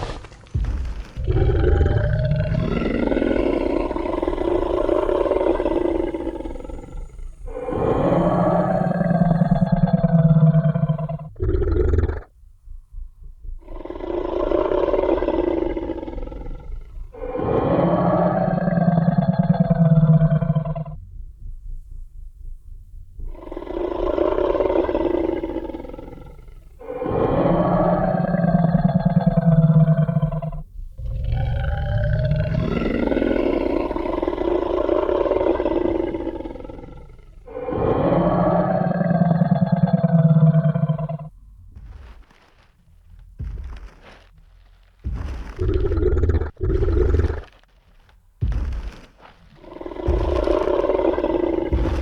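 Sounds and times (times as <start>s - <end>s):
deep growling dinosaur roar: 0.0s - 12.3s, 13.6s - 21.2s, 23.2s - 47.7s, 48.4s - 52.0s
faint low rumble: 0.0s - 52.0s.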